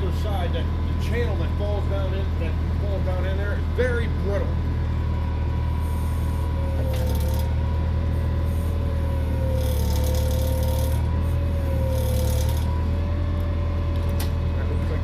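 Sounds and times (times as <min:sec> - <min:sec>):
forklift humming and whining: 0:00.0 - 0:15.0.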